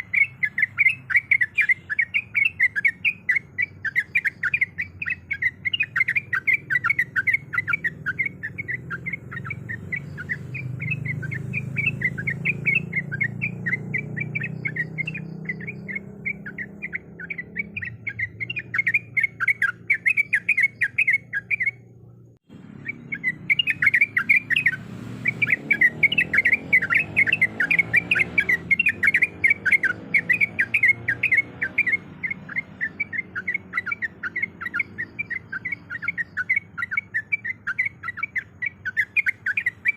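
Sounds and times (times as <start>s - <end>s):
bulbul chattering call: 0.0s - 39.9s.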